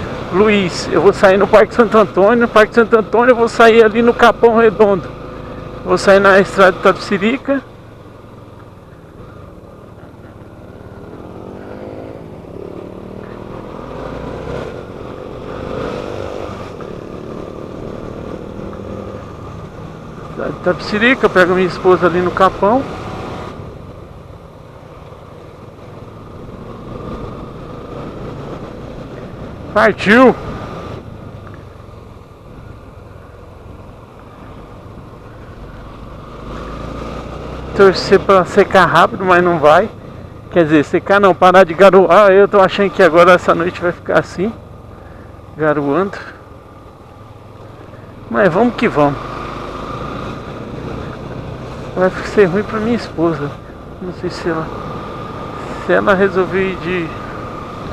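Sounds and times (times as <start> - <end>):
motorcycle engine accelerating: 3.8 - 40.4, 42.2 - 57.9.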